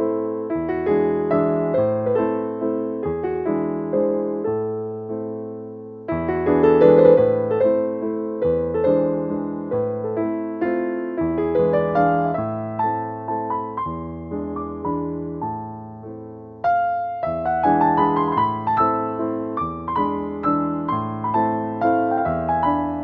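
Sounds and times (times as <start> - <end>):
electric piano playing chords: 0.0 - 23.0.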